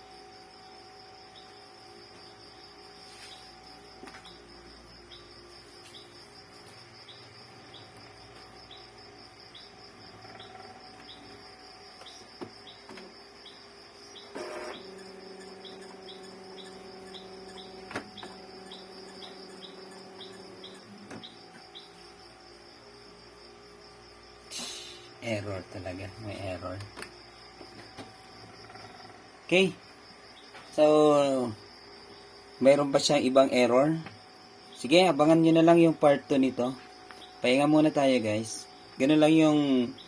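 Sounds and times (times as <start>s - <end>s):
insects shrilling: 0.2s - 40.0s.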